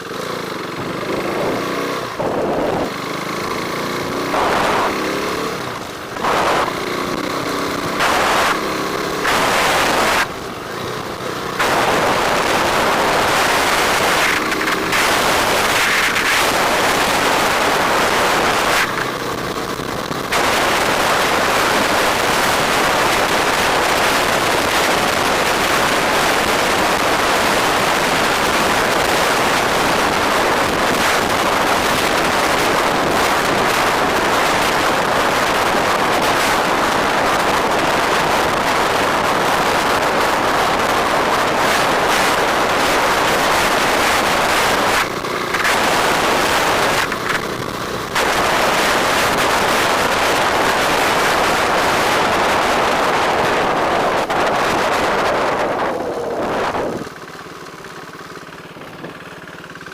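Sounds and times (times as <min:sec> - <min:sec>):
motorcycle engine: 0:00.0 - 0:59.9
wind rushing over microphone: 0:00.8 - 0:10.6, 0:11.5 - 0:57.2.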